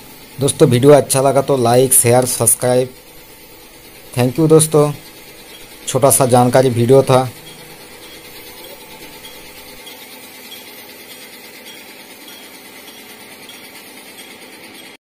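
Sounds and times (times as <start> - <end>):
paint spray gun hissing: 0.0 - 15.0.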